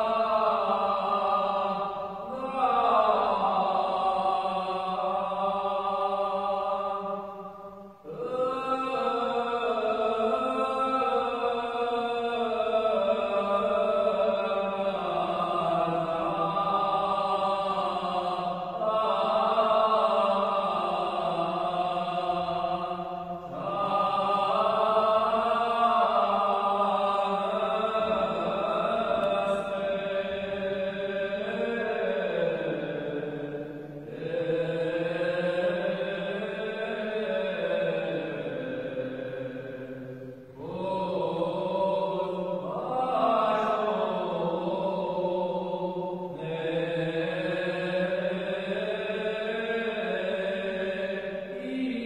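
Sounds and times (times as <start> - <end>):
man chanting in long held notes: 0.0 - 52.0.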